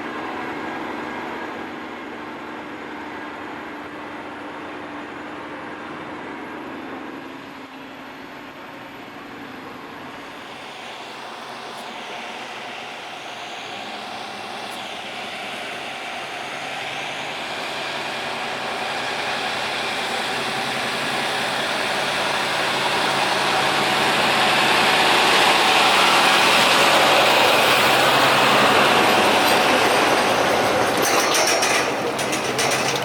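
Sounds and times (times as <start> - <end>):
heavy engine rumbling: 0.0 - 33.0.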